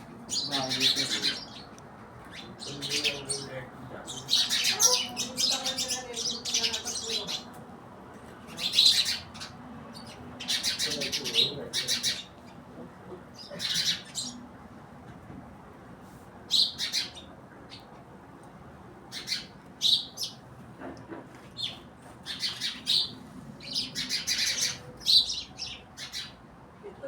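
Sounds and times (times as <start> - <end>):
small birds chirping: 0.0 - 7.7, 8.3 - 14.5, 16.4 - 18.0, 19.0 - 20.6, 21.5 - 26.5.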